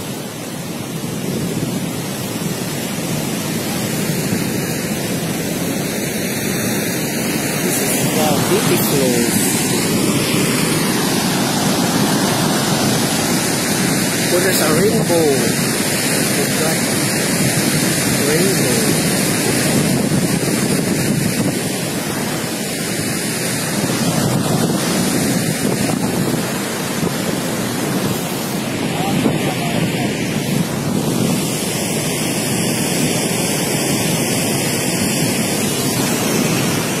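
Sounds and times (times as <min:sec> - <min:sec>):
waterfall rushing: 0:00.0 - 0:37.0
wind buffeting microphone: 0:00.4 - 0:34.4.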